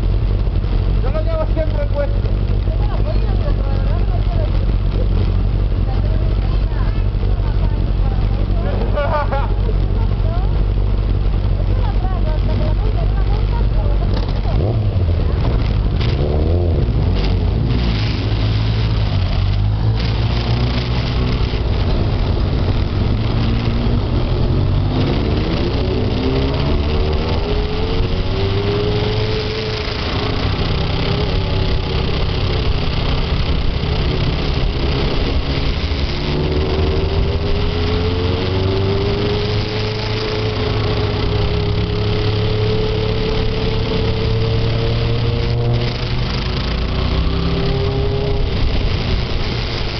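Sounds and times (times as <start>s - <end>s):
motorcycle engine running: 0.0s - 49.9s
steady rush of noise: 0.0s - 49.9s.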